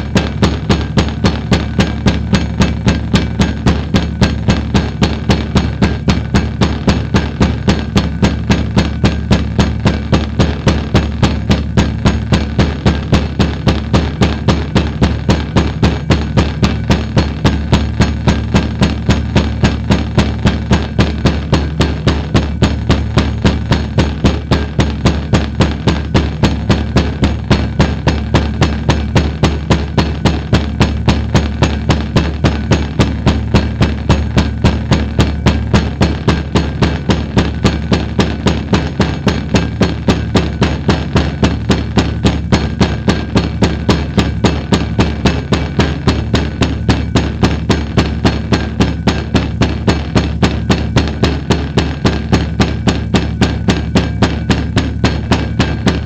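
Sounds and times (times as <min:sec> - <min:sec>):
loudspeaker low-pitched hum: 0:00.0 - 0:56.0
sharp evenly spaced clicks: 0:00.0 - 0:56.0.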